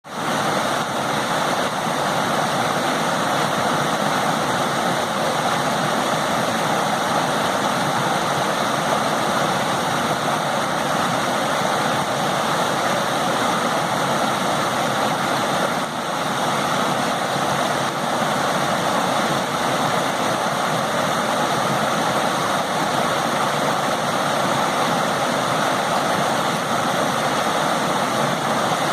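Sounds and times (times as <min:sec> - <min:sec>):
stream rushing water: 0:00.0 - 0:28.9.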